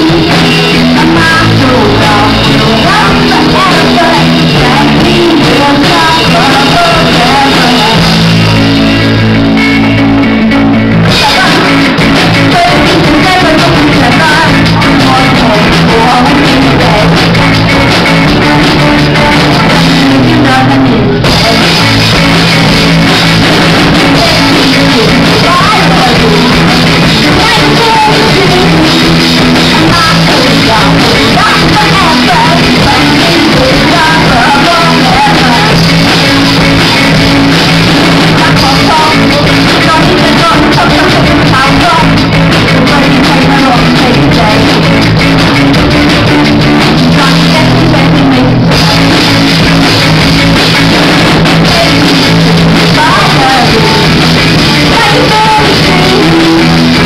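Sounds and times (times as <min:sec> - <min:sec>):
live rock band playing: 0:00.0 - 0:57.0
person singing into microphone: 0:00.0 - 0:57.0.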